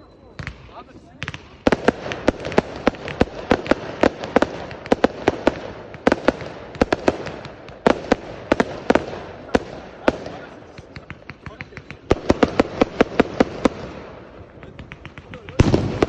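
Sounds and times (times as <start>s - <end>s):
fireworks crackling: 0.0s - 16.0s
fireworks banging: 0.3s - 16.0s.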